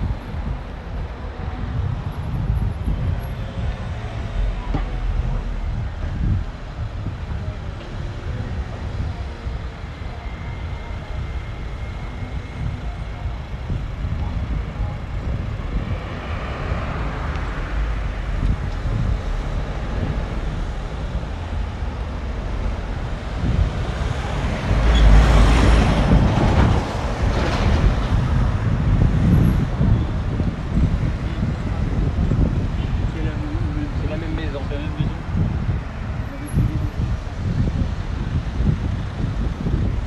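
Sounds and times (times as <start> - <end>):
road traffic rumbling: 0.0 - 40.0.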